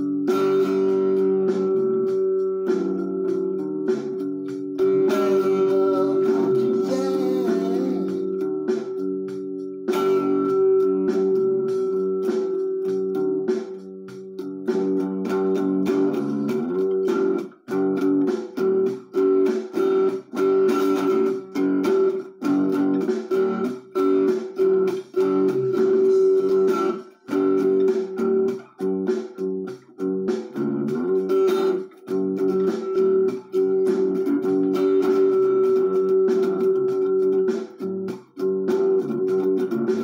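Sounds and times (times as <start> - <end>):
plucked guitar music: 0.0 - 40.0.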